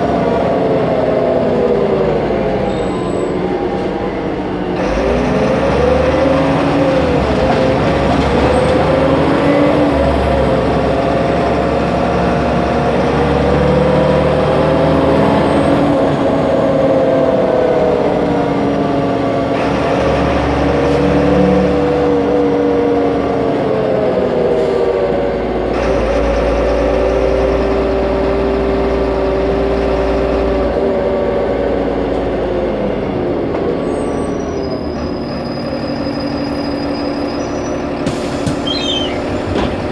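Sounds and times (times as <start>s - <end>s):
bus engine hum and whine: 0.0s - 39.9s
steady low road rumble: 0.0s - 39.9s.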